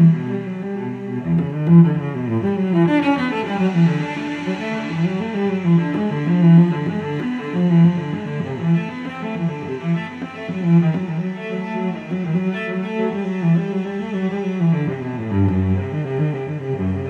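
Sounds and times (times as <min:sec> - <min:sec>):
slow bowed string melody: 0:00.0 - 0:17.0.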